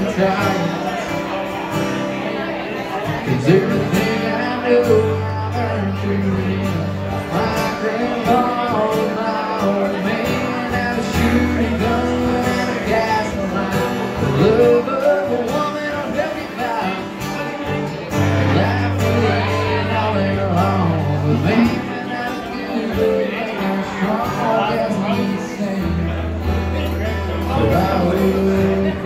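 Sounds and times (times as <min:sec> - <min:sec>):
man singing: 0:00.0 - 0:02.2, 0:02.8 - 0:29.0
acoustic guitar: 0:00.0 - 0:29.0.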